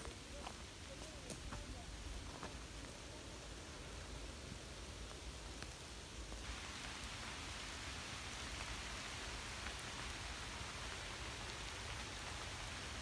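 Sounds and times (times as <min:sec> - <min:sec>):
rain hissing steadily: 0:00.0 - 0:13.0.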